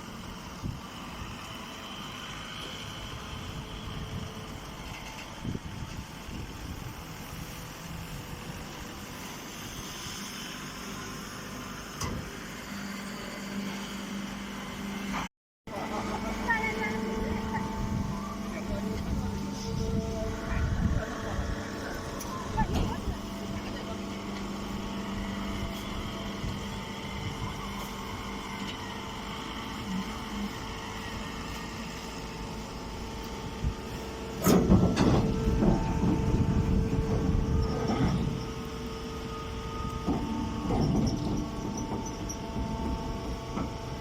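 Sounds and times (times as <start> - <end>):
steady machine noise: 0.0 - 44.0.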